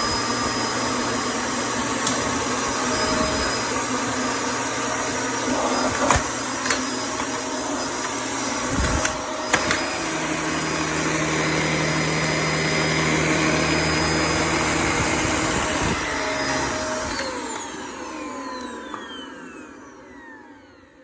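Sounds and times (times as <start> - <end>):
upright vacuum cleaner running: 0.0 - 21.0
motor whine winding down: 1.9 - 21.0.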